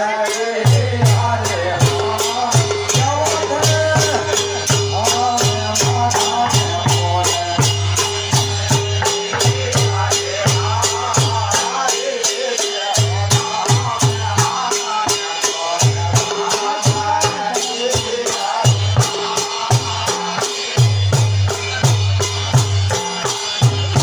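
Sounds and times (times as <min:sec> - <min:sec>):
jingling percussion beat: 0:00.0 - 0:24.0.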